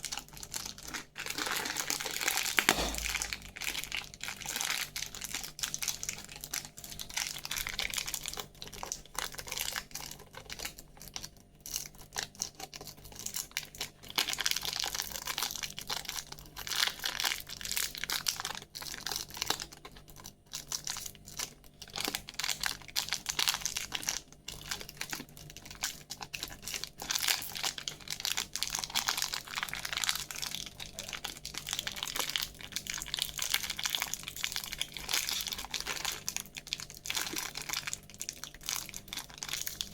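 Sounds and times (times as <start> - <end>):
plastic candy wrappers crinkling: 0.0 - 39.9.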